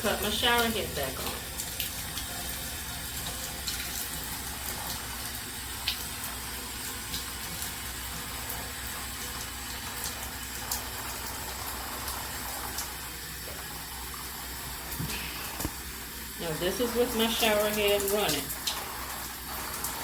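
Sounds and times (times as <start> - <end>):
water running into a bathtub: 0.0 - 20.0.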